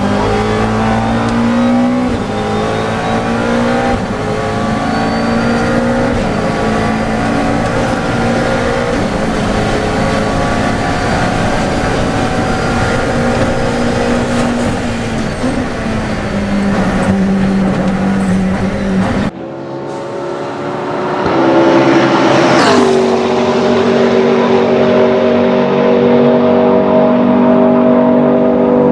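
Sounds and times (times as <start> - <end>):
race car engine revving: 0.0 - 28.9.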